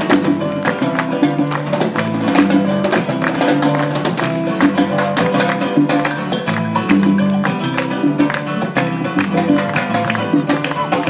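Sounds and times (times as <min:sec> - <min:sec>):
live salsa band playing: 0:00.0 - 0:11.0.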